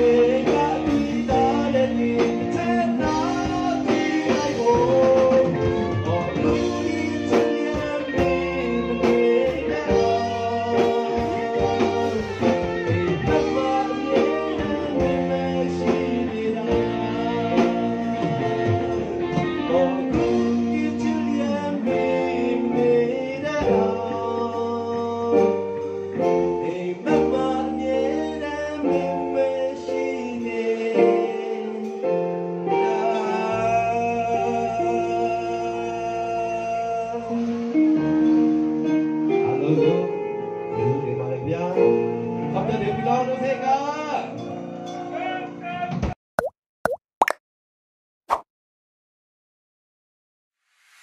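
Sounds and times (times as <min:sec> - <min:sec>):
man singing lead vocal: 0:00.0 - 0:38.0, 0:39.3 - 0:45.5
live band playing pop song: 0:00.0 - 0:46.2.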